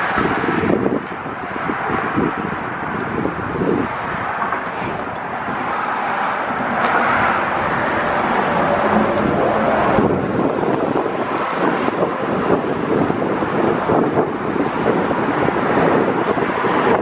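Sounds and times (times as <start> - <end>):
car road noise: 0.0 - 17.0
wind buffeting microphone: 0.0 - 17.0.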